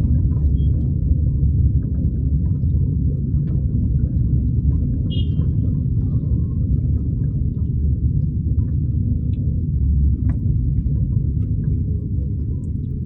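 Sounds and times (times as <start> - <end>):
car interior road and engine noise: 0.0 - 13.0.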